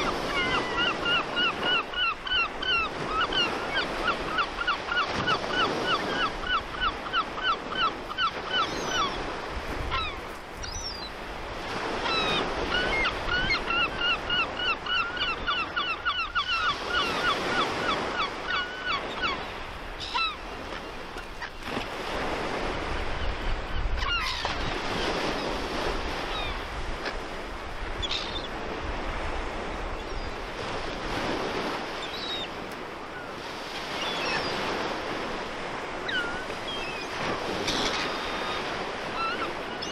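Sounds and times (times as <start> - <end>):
gulls calling: 0.0 - 23.4, 24.0 - 39.9
sea waves washing: 0.0 - 39.9.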